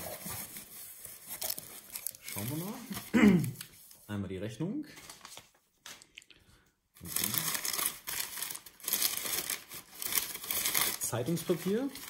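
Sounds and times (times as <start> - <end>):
newspaper rustling and crinkling: 0.0 - 4.0, 4.9 - 6.1, 7.0 - 12.0.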